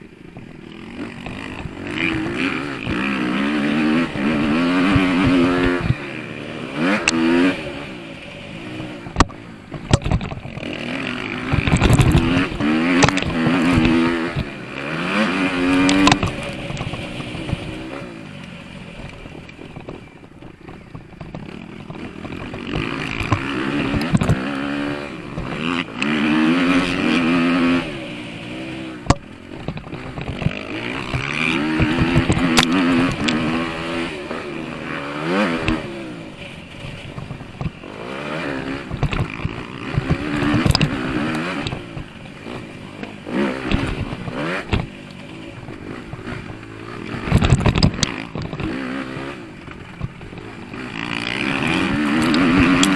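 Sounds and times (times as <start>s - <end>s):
dirt bike engine revving: 0.0s - 52.9s
bike clattering over bumps: 0.1s - 52.9s.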